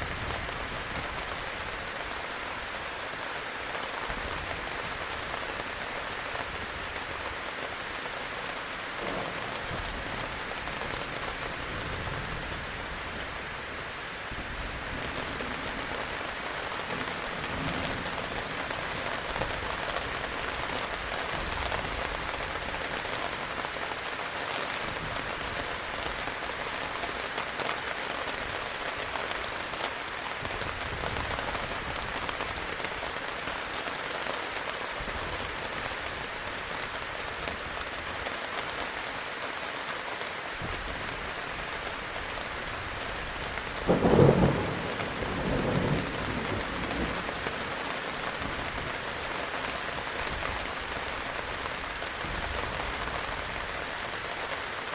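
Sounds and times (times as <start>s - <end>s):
heavy rain falling: 0.0s - 54.9s
raindrops striking close by: 0.0s - 54.9s.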